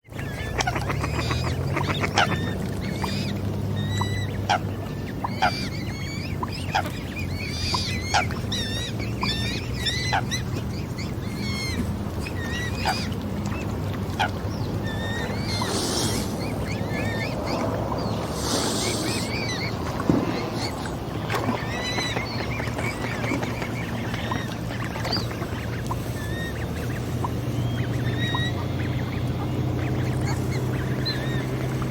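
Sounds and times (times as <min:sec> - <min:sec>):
swans and waterfowl calling: 0:00.1 - 0:31.9.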